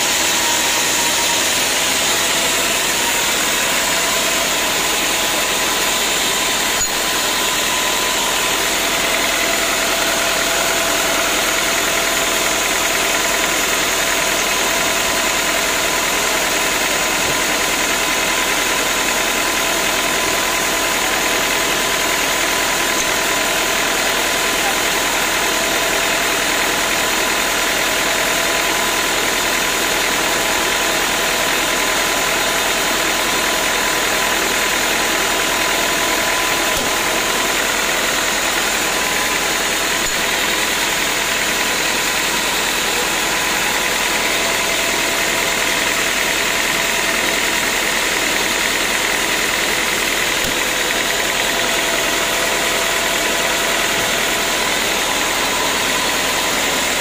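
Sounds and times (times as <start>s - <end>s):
band saw machine drone: 0.0s - 28.3s, 33.2s - 57.0s.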